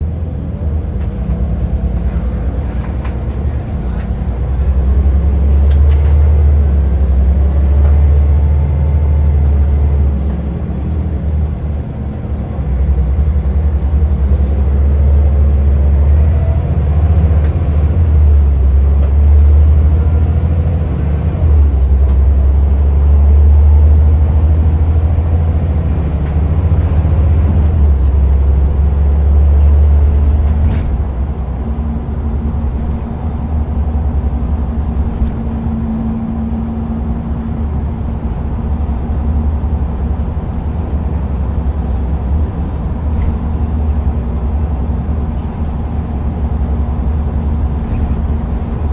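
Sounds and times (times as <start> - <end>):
bus diesel engine rumbling: 0.0 - 48.9.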